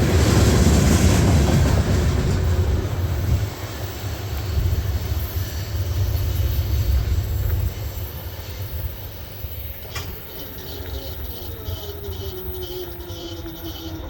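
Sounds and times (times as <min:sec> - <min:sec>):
freight train rolling by: 0:00.0 - 0:14.0.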